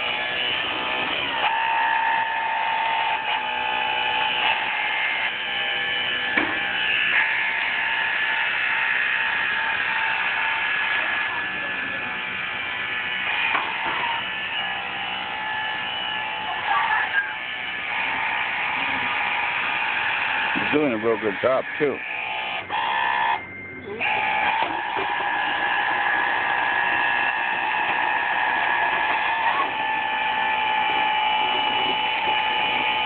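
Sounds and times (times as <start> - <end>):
small electric motors whining: 0.0 - 33.0.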